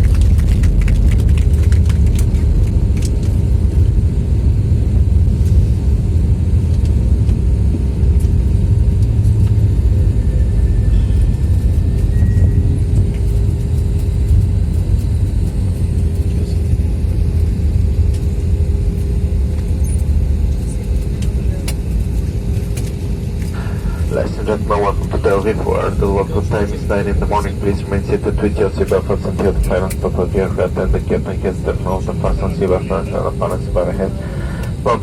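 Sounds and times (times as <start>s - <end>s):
aircraft cabin rumble: 0.0s - 35.0s.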